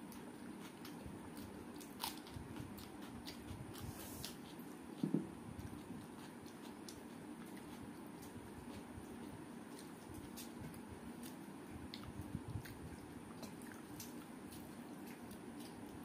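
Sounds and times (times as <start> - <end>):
chewing and crunching: 0.0 - 16.0
low background hum: 0.0 - 16.0.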